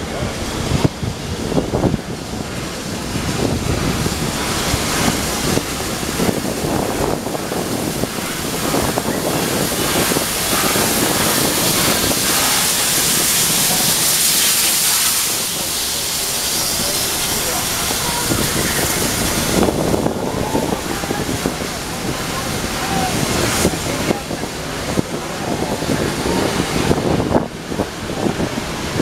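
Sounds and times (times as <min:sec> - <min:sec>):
steam hissing: 0:00.0 - 0:29.0
steam locomotive chuffing: 0:00.0 - 0:29.0.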